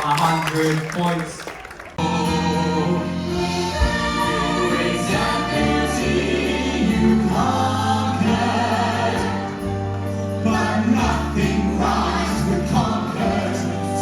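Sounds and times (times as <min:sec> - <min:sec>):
group singing in choral harmony: 0:02.0 - 0:14.0
live band playing: 0:02.0 - 0:14.0.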